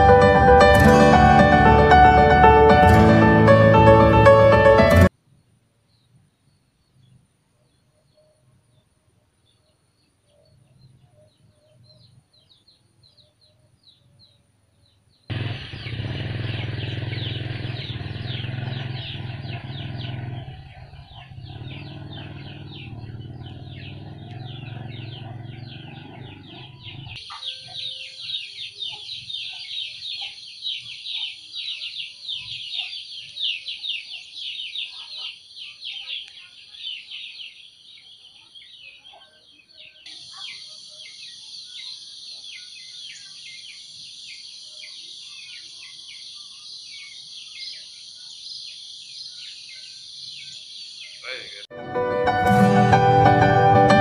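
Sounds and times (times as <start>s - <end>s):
small birds chirping: 5.2s - 51.7s.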